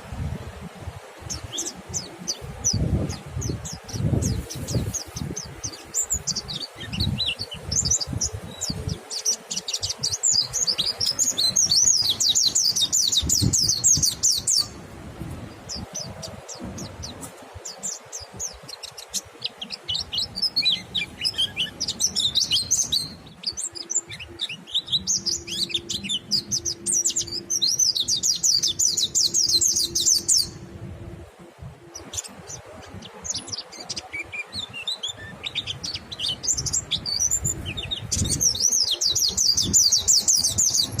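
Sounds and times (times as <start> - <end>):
birds twittering song: 0.0 - 41.0.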